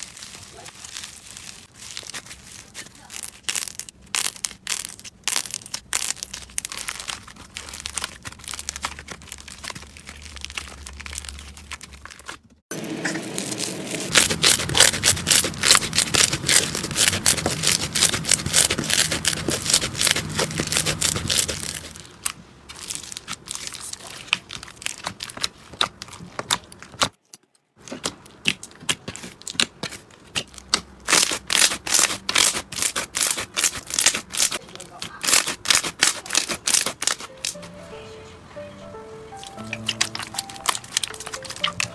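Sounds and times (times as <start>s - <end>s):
slime squished crackling and popping: 0.0s - 12.4s, 13.4s - 37.7s, 39.4s - 41.9s.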